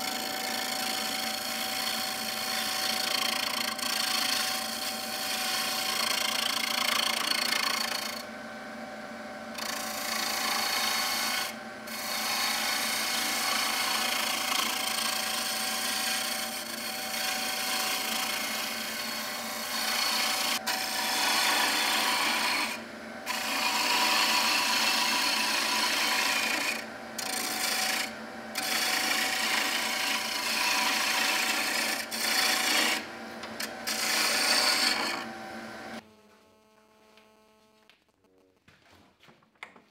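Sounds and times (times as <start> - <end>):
lathe tool cutting wood: 0.0 - 36.0
lathe motor hum: 0.0 - 36.6.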